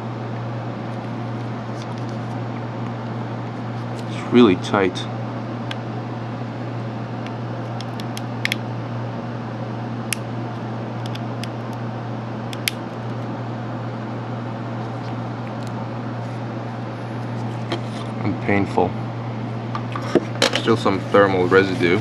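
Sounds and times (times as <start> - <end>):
low hum and hiss: 0.0 - 22.0.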